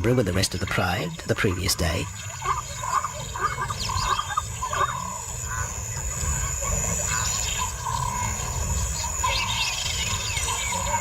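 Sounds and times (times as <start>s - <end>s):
high-pitched insect drone: 0.1s - 11.0s.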